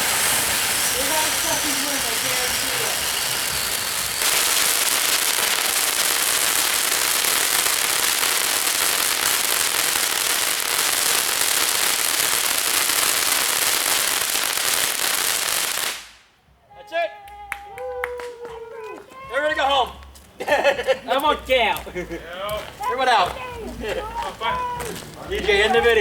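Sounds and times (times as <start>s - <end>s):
fireworks crackling and hissing: 0.0s - 16.4s, 19.0s - 26.0s.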